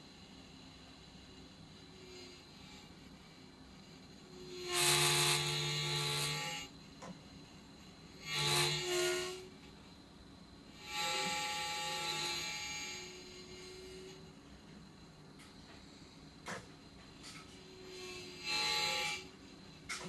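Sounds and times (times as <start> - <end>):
gimbal motors buzzing: 0.0 - 9.8, 10.7 - 20.0.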